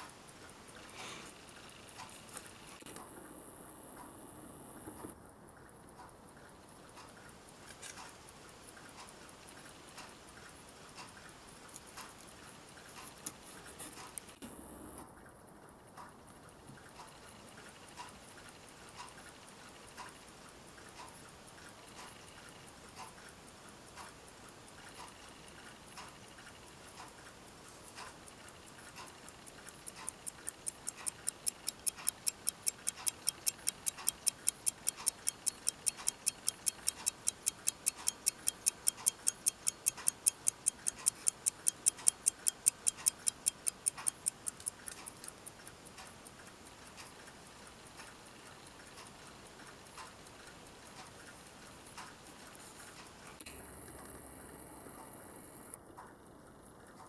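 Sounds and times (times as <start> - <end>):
pocket watch ticking: 0.0 - 15.2, 15.9 - 57.0.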